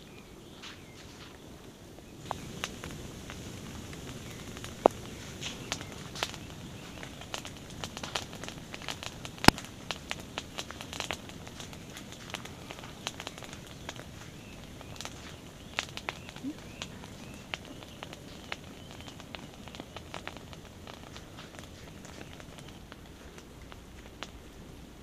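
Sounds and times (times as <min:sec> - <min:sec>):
lava burning plants crackling: 0:00.0 - 0:25.0
steady low background noise: 0:00.0 - 0:25.0.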